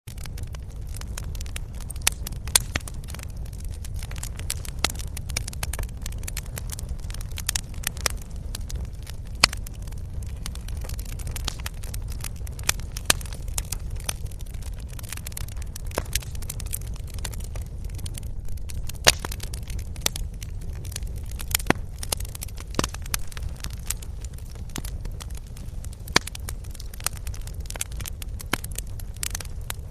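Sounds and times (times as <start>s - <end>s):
low fire rumble: 0.1s - 29.9s
wood bonfire crackling: 0.1s - 29.9s
sharp pops and snaps: 0.4s - 29.5s.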